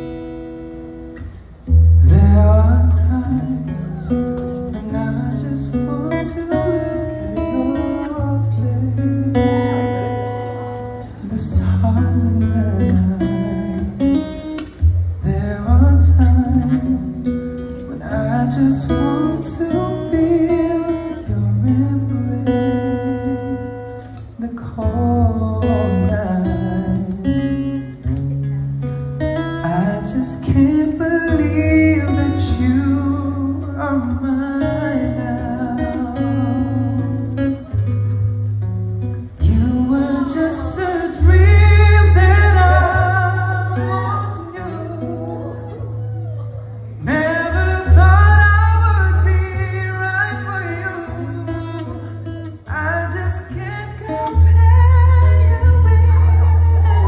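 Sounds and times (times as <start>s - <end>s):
strummed acoustic guitar: 0.0s - 57.0s
man singing into a microphone: 1.9s - 28.0s, 29.5s - 37.9s, 39.3s - 46.0s, 47.0s - 57.0s.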